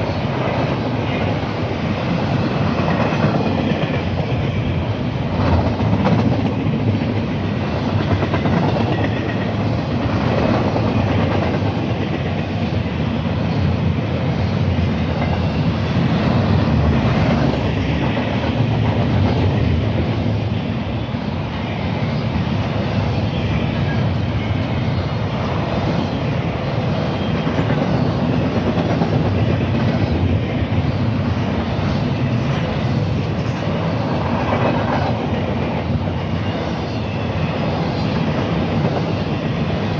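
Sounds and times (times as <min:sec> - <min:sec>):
train cars rumbling past: 0:00.0 - 0:39.9.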